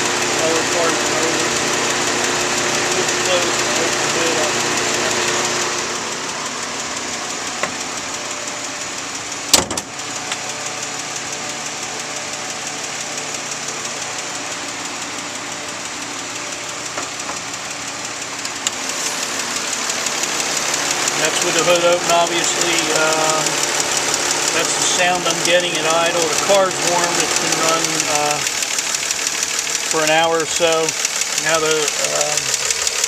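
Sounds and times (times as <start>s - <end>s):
car engine idling: 0.0s - 33.0s
fast steady engine ticking: 0.0s - 33.0s.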